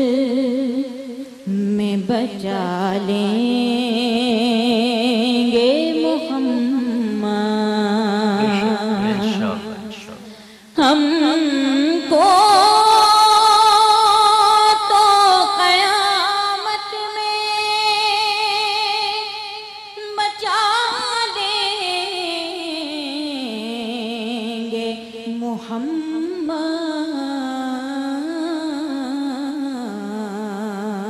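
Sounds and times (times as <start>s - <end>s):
woman singing devotional song: 0.0s - 9.7s, 10.4s - 31.0s.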